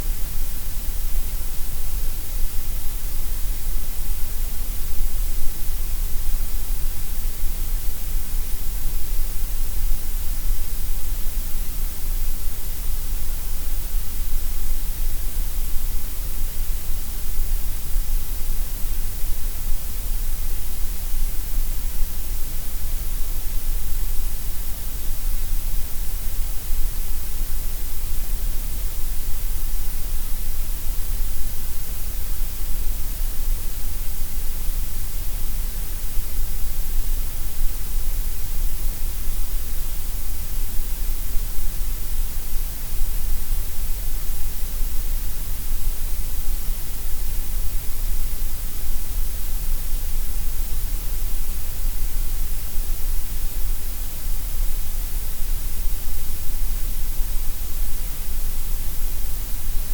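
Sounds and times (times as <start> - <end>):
gray noise hiss: 0.0 - 59.9.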